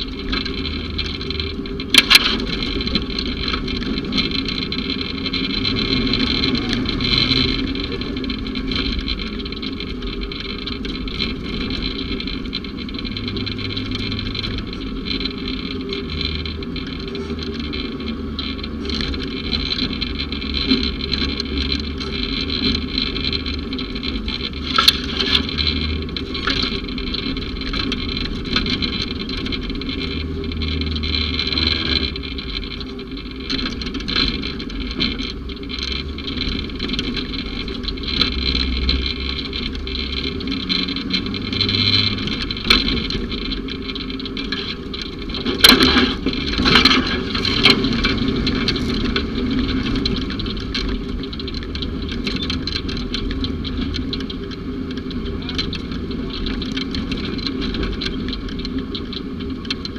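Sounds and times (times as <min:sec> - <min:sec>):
utility vehicle running: 0:00.0 - 0:59.9.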